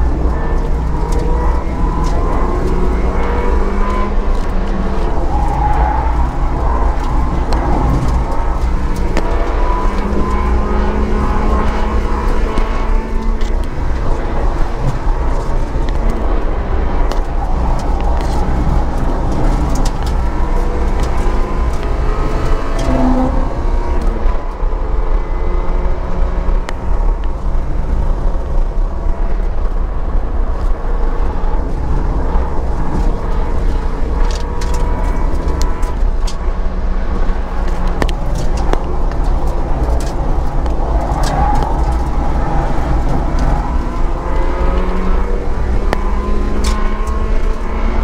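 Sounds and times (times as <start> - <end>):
car engine driven hard: 0.0 - 48.0
wind rumble on microphone: 0.0 - 48.0.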